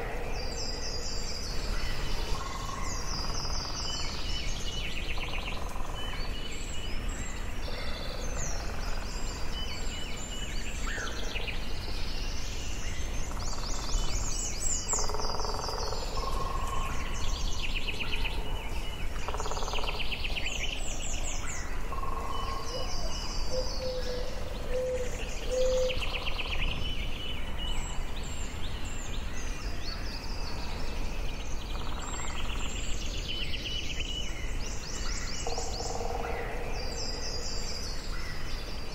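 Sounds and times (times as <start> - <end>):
birds singing and calling: 0.0 - 38.9.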